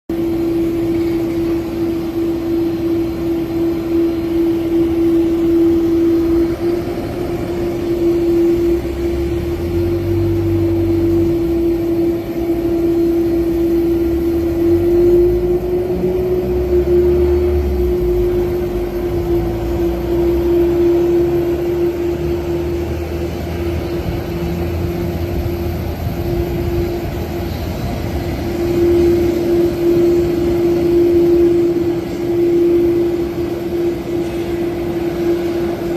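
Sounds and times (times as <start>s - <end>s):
jet airliner hum and rumble: 0.1s - 35.9s.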